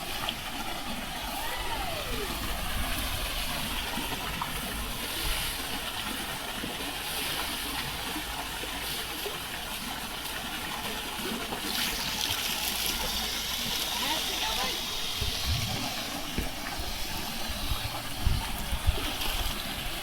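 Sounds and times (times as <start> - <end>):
water gushing and splashing: 0.0 - 20.0.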